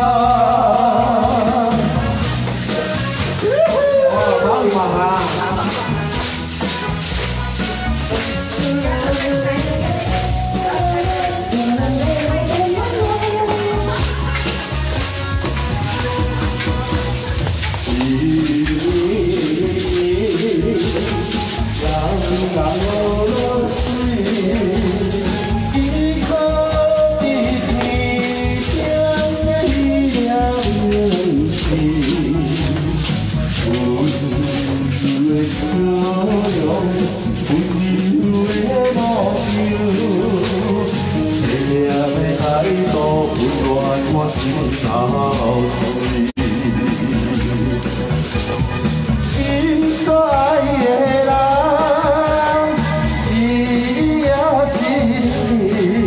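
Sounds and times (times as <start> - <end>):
maraca-like rattle: 0.0 - 56.0
music with steady beat: 0.0 - 56.0
pop song over loudspeaker: 0.0 - 56.0.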